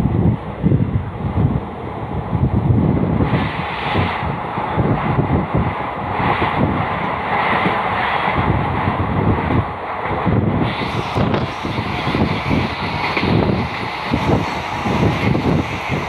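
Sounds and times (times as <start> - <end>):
train wheels rumbling on rails: 0.0 - 16.0
wind rushing: 0.0 - 16.0.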